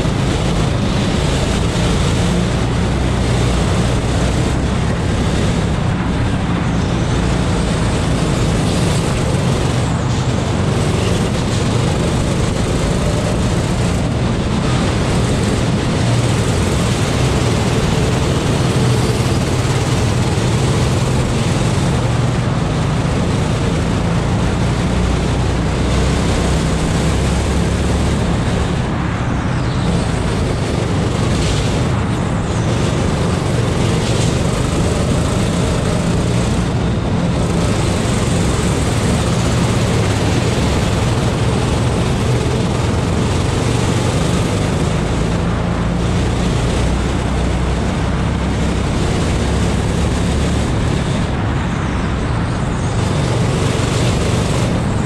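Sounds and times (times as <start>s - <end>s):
go-kart engine racing: 0.0s - 55.0s
wind noise on microphone: 0.0s - 55.0s.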